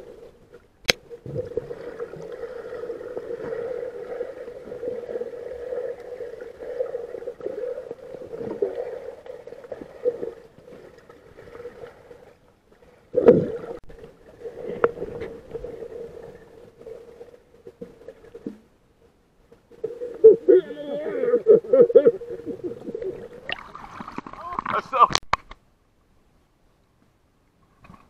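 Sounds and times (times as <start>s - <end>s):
underwater bubbling: 0.0s - 18.8s, 19.6s - 24.7s
underwater hum: 0.0s - 24.7s.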